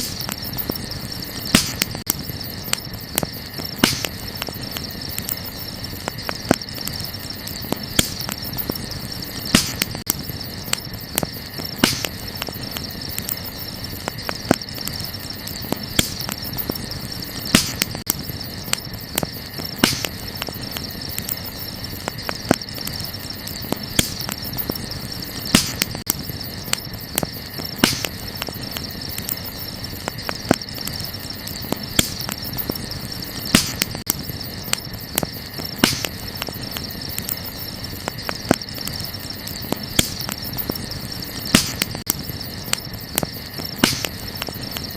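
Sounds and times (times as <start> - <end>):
campfire crackling: 0.0 - 44.9
crickets chirping: 0.0 - 44.9.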